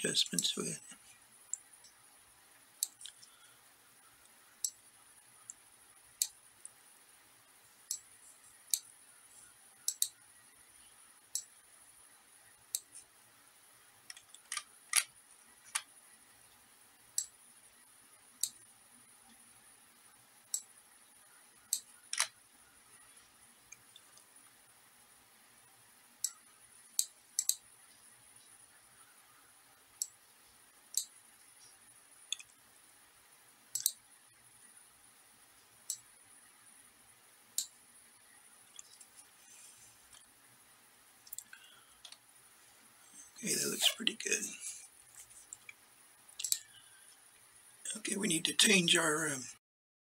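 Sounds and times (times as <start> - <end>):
faint high hiss: 0.0 - 49.6.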